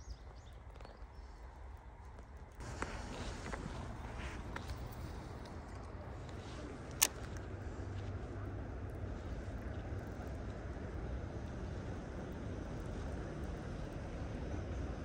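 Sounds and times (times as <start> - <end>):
distant road traffic rumble: 0.0 - 15.0.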